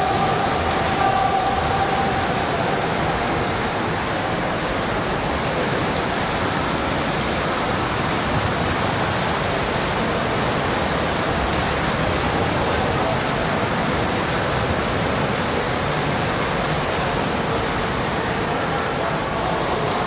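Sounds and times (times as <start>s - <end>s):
echoing hall din: 0.0s - 20.0s
swimmers splashing water: 0.0s - 20.0s.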